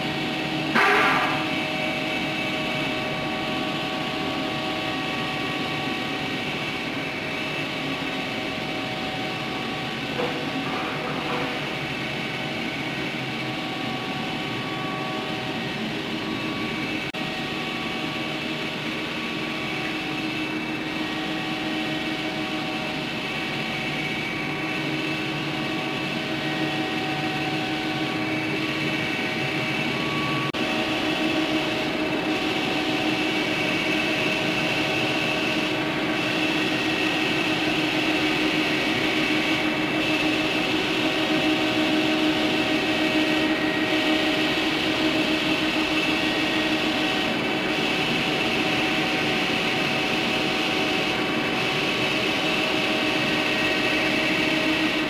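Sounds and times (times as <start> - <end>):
machinery whirring: 0.0 - 55.0.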